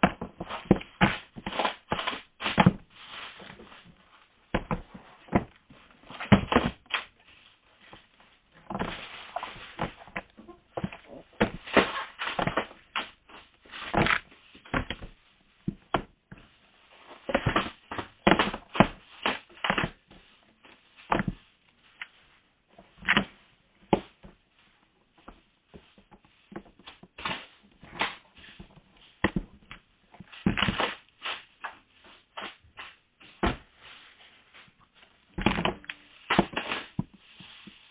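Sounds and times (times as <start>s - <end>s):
parcel rustling: 0.2s - 15.6s, 16.4s - 37.9s.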